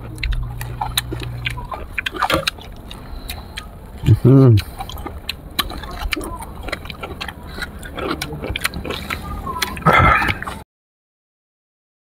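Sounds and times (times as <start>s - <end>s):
chewing with crisp clicks: 0.0s - 10.6s
murmured vocal sounds: 0.0s - 10.6s.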